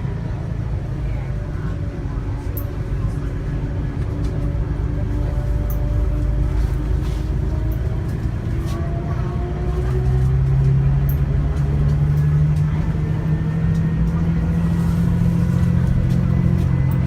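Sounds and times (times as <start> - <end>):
coach engine accelerating: 0.0 - 17.0.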